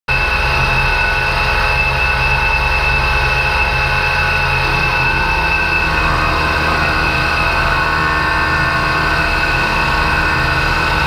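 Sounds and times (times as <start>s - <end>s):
woodworking machine running: 0.1s - 11.0s.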